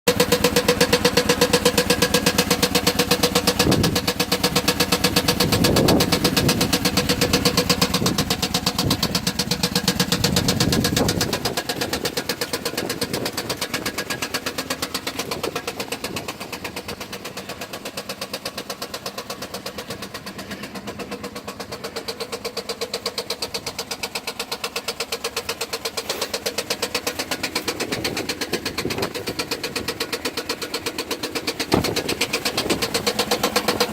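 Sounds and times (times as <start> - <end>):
car engine idling with knock: 0.1 - 33.9.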